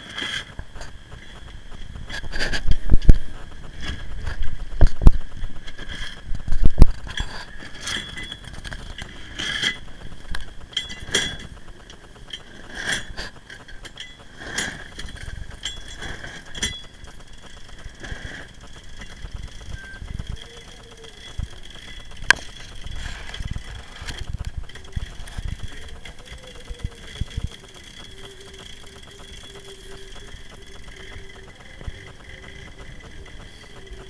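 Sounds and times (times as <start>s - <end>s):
winch ratcheting clicks: 0.0s - 34.0s.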